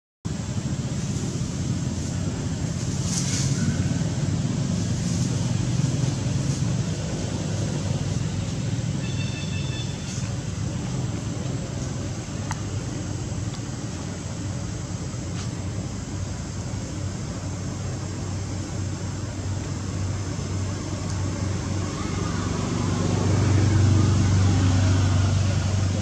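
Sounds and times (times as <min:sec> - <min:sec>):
low outdoor rumble: 0:00.3 - 0:26.0.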